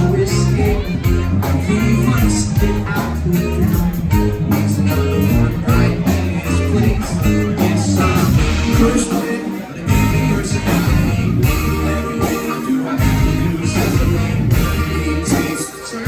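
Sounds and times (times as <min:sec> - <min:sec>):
bass and drums: 0:00.0 - 0:16.0
electric guitar: 0:00.0 - 0:16.0.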